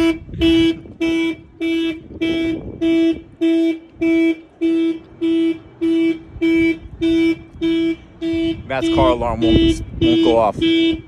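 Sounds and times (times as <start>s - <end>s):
car alarm horn blasts: 0.0s - 11.0s.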